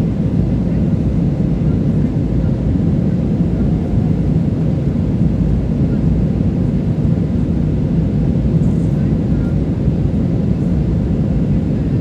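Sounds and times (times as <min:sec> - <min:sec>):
airplane cabin roar: 0:00.0 - 0:12.0.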